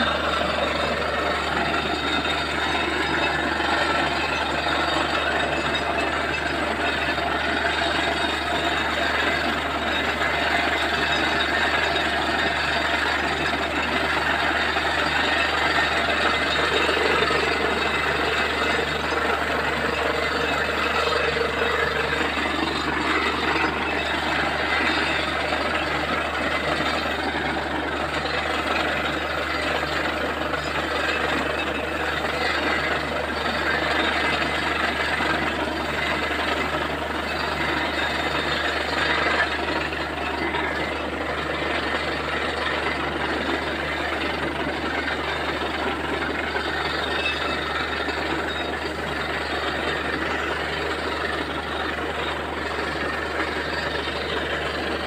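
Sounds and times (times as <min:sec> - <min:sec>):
drilling rig running: 0:00.0 - 0:55.0.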